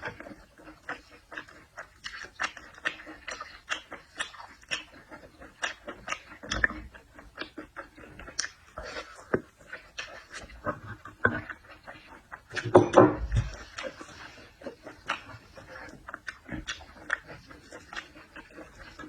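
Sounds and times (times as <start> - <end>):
close-up chewing and mouth sounds: 0.0 - 19.0.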